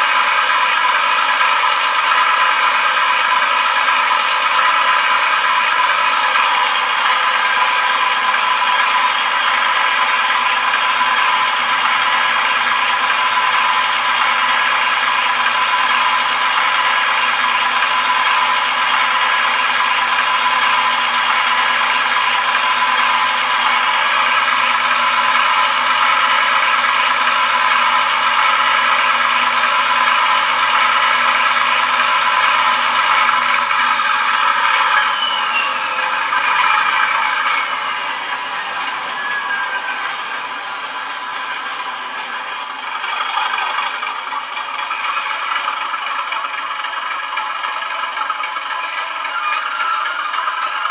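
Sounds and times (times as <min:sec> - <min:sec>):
diesel engine sound through small speaker: 0:00.0 - 0:50.9.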